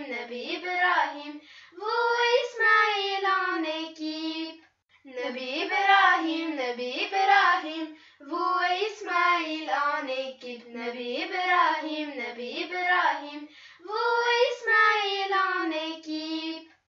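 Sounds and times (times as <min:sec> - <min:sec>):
child singing: 0:00.0 - 0:16.7.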